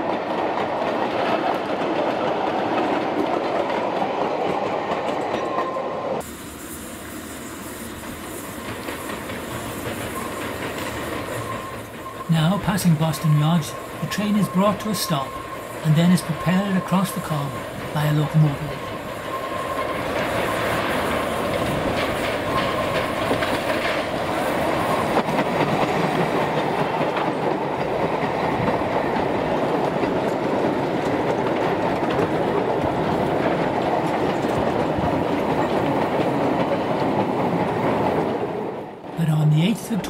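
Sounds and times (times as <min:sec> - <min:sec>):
train wheels running on rails: 0:00.0 - 0:40.0.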